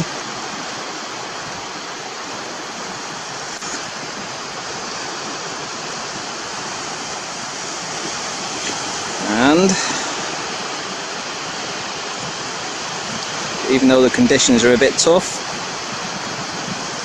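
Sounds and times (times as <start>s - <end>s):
sea surf breaking on beach: 0.0s - 17.0s.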